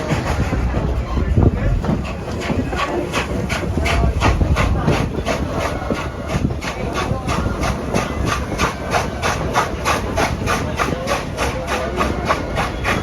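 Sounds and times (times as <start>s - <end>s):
steam locomotive chuffing: 0.0s - 13.0s
train rumble: 0.0s - 13.0s.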